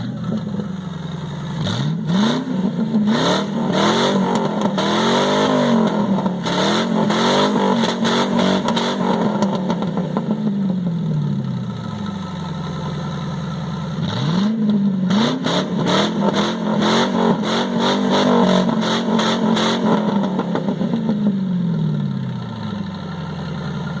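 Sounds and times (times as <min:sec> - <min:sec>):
car engine revving and idling: 0:00.0 - 0:24.0.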